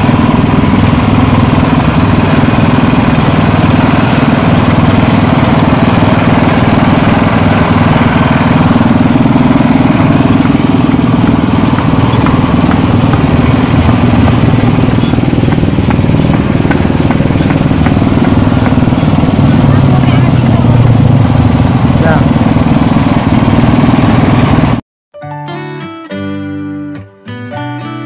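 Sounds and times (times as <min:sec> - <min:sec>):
small engine running: 0:00.0 - 0:24.8.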